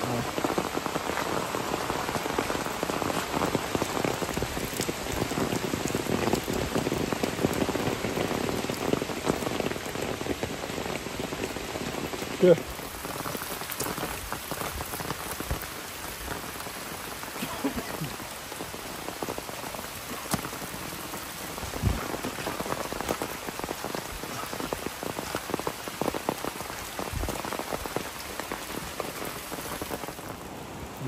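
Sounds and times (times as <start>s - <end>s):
falling water pattering: 0.0s - 31.0s.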